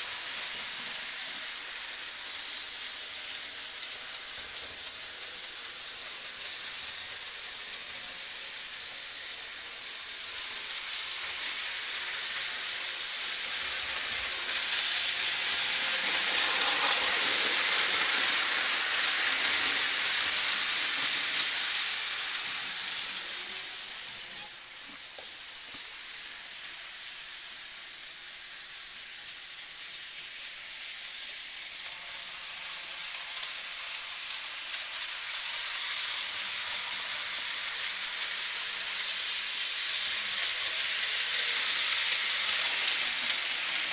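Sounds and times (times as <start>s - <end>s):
model train rolling on track: 0.0s - 43.9s.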